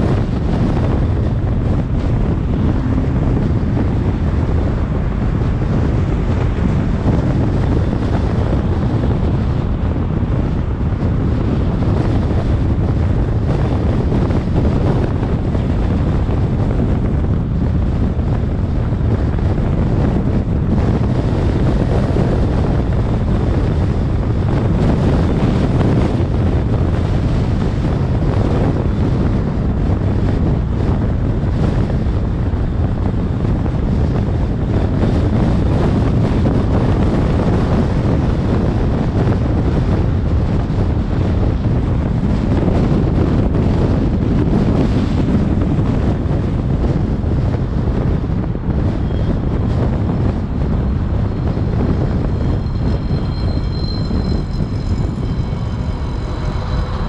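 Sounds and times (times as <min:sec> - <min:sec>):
car road noise: 0:00.0 - 0:57.0
wind noise on microphone: 0:00.0 - 0:57.0.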